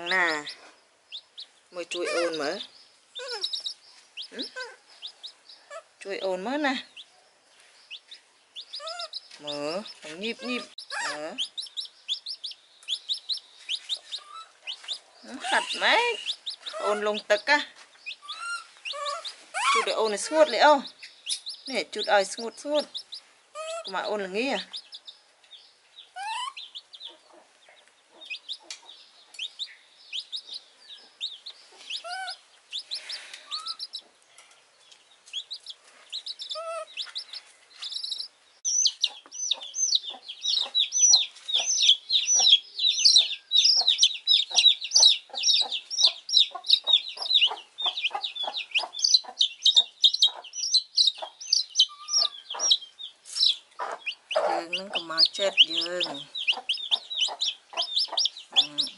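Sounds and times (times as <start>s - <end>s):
baby chicken peeping: 0.0s - 58.9s.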